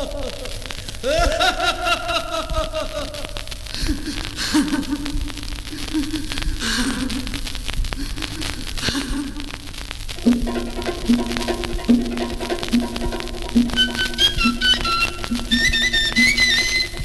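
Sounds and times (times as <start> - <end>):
vinyl surface crackle and clicks: 0.0 - 17.0.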